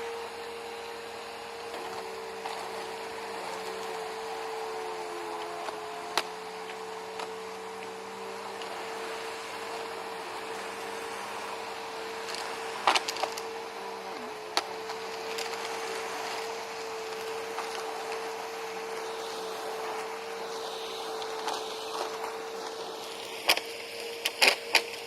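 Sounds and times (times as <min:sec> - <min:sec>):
upright vacuum motor humming: 0:00.0 - 0:25.0.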